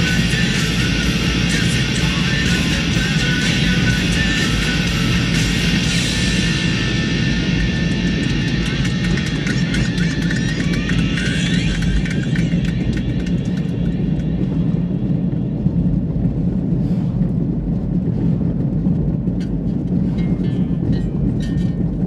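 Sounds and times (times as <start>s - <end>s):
faint music: 0.0s - 22.0s
road and engine rumble in car: 0.0s - 22.0s.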